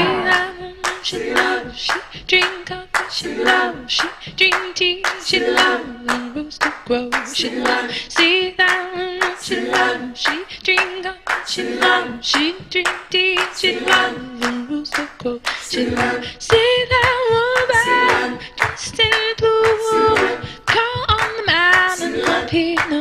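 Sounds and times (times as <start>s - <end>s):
woman singing: 0.0s - 23.0s
hand claps: 0.3s - 23.0s.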